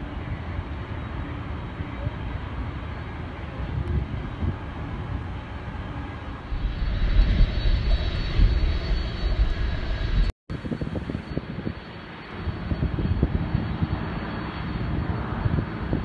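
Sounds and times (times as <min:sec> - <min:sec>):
jet airliner engine rumble: 0:00.0 - 0:16.0.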